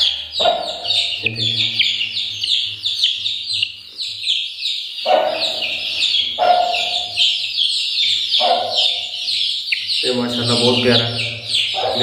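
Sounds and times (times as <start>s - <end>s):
chicks peeping: 0.0s - 12.0s
low-pitched calls: 0.0s - 12.0s.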